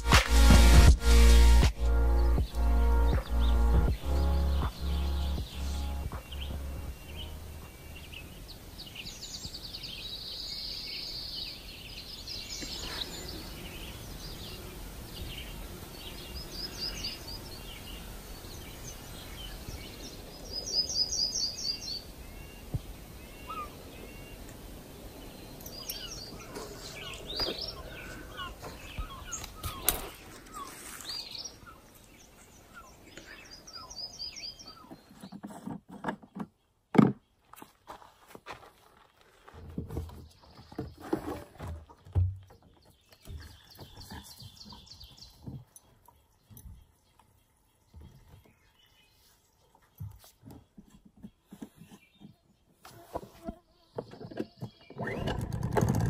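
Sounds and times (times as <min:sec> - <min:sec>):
songbirds trilling and chirping: 0:01.4 - 0:56.0.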